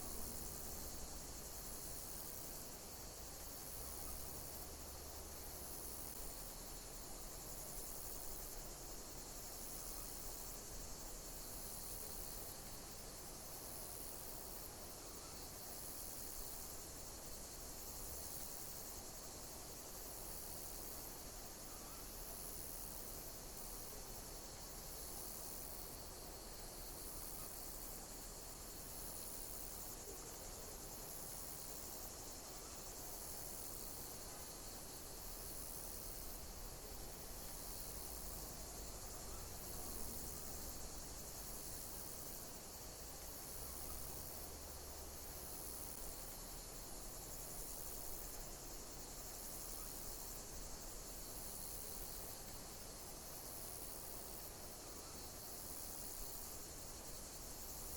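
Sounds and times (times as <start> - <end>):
higher pulsing insect call: 0.0 - 57.9
insects chirping chorus: 0.0 - 57.9.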